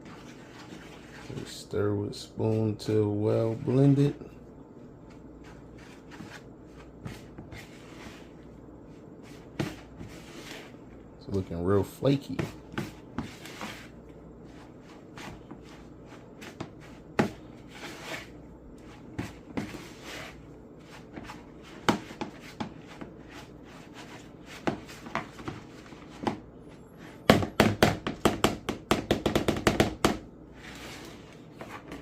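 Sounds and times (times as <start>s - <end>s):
spoon stirring dough in bowl: 0.0s - 4.3s, 4.9s - 26.4s.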